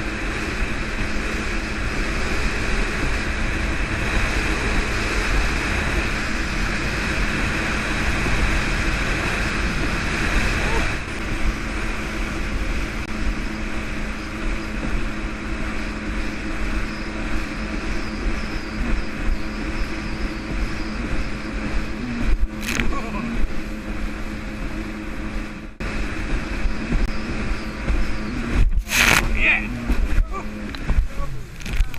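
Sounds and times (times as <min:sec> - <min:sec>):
jet ski engine running: 0:00.0 - 0:31.9
wind and water rushing: 0:00.0 - 0:31.9.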